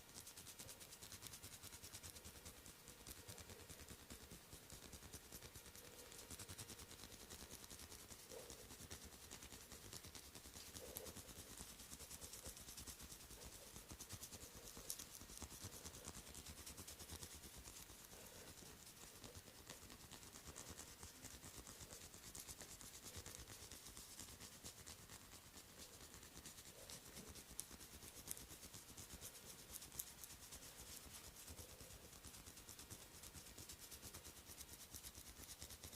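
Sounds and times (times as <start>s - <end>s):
fingers rubbing on hair and skin: 0.0s - 35.9s.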